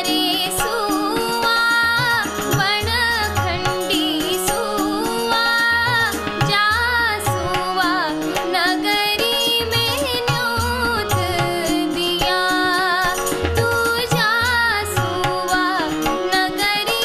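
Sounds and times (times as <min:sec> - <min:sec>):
woman singing a folk song: 0:00.0 - 0:17.0.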